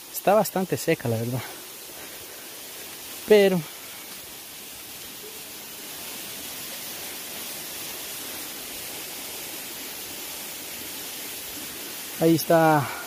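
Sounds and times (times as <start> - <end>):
stream water hissing: 0.0 - 13.0.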